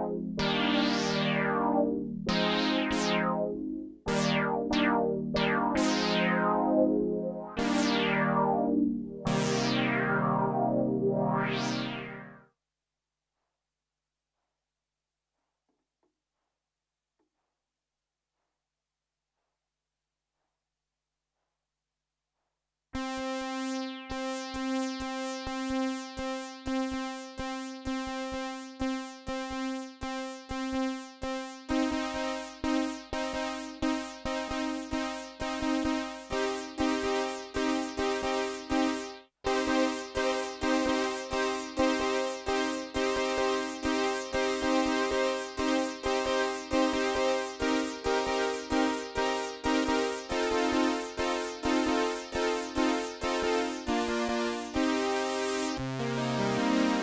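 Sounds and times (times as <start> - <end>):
synthesizer rhythmic pattern: 0.0 - 12.4, 23.0 - 57.0.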